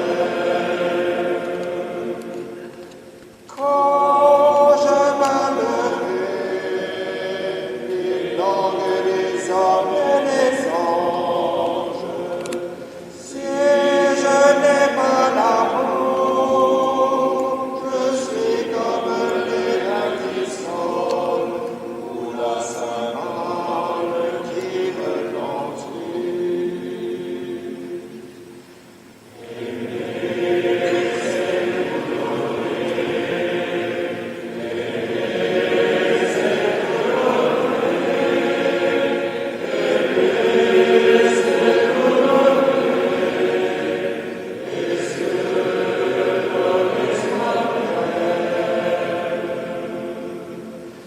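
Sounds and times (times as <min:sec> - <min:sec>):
group singing a hymn: 0:00.0 - 0:51.0.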